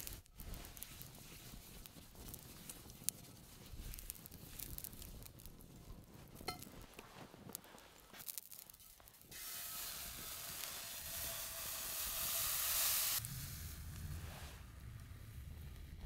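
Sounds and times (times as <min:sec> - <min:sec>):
batter sizzling in frying pan: 0:00.0 - 0:14.6.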